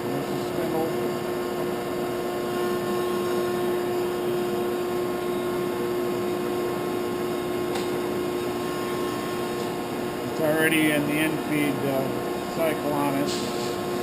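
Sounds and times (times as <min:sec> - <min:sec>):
grinder machine humming: 0:00.0 - 0:14.0.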